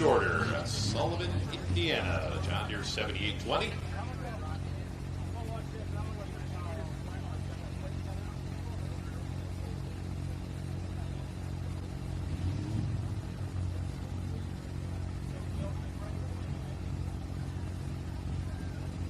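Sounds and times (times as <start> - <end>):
tractor engine idling and revving: 0.0 - 19.0.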